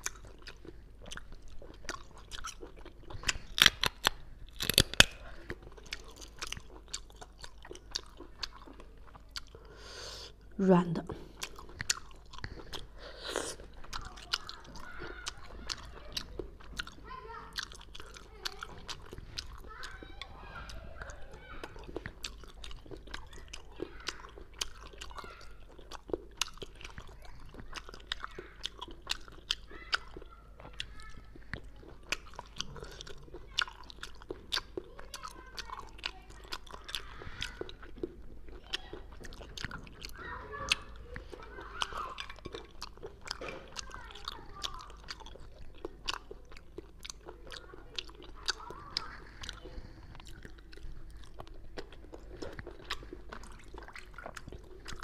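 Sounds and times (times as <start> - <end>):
mouth clicks and smacks: 0.0 - 55.0
wet chewing: 0.0 - 55.0.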